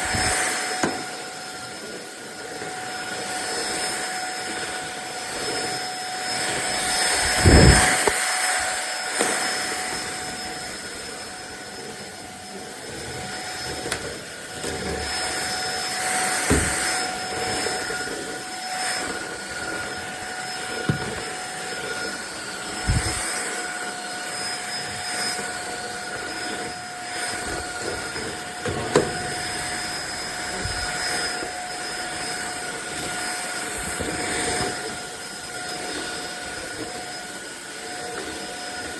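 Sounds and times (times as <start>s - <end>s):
stick vacuum cleaner whine: 0.0s - 38.9s.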